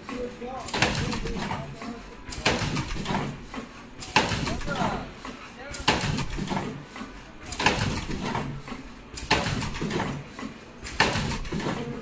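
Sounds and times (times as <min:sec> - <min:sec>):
factory noise: 0:00.0 - 0:12.0.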